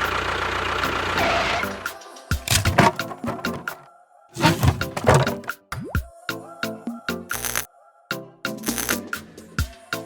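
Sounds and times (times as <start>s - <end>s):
music: 1.6s - 10.0s.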